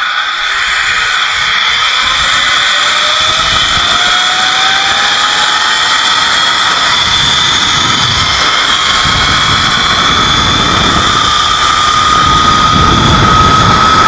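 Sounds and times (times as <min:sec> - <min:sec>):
wind buffeting microphone: 0:00.0 - 0:14.0
zip line trolley whirring: 0:00.0 - 0:14.0.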